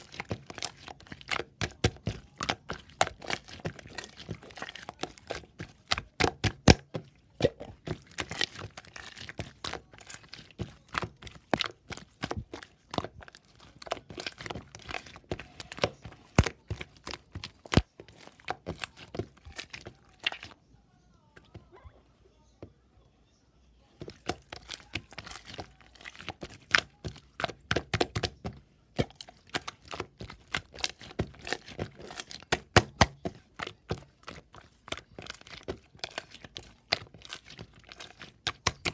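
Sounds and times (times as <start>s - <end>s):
crackling and crinkling: 0.0s - 22.6s, 23.8s - 38.9s.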